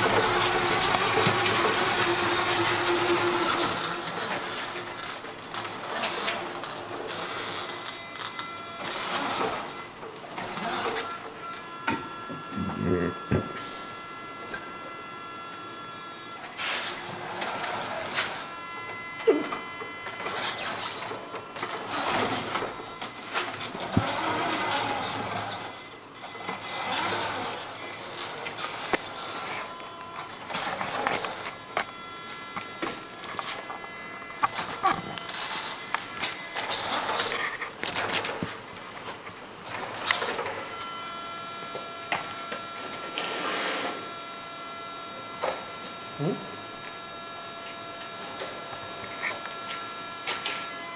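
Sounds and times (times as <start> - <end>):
toy truck motor whirring: 0.0 - 50.9
high motor whine: 7.0 - 50.9.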